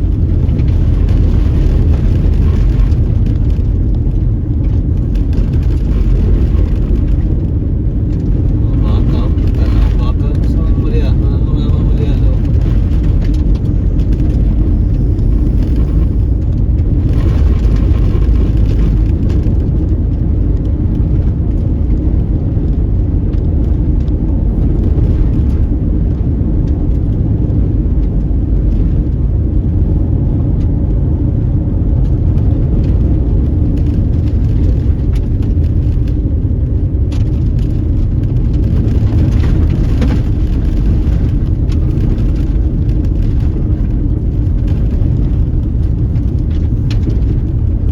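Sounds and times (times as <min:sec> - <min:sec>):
car driving on dirt road: 0:00.0 - 0:47.9.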